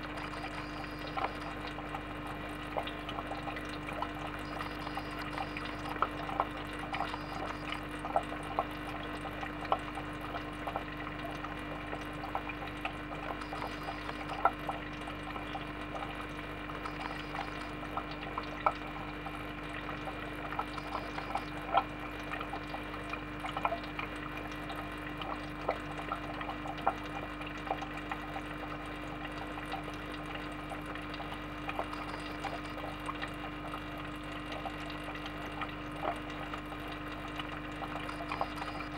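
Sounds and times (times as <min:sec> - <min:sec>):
aquarium filter hum: 0:00.0 - 0:38.9
trickling water: 0:00.0 - 0:38.9
water drips: 0:00.0 - 0:38.9.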